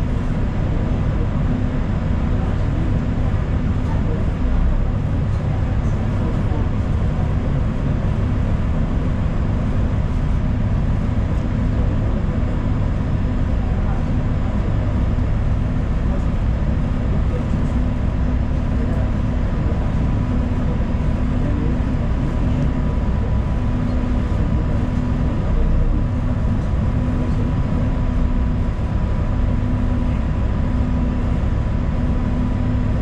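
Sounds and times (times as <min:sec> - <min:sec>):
bus engine and road rumble: 0:00.0 - 0:33.0
thin steady whine: 0:00.0 - 0:33.0.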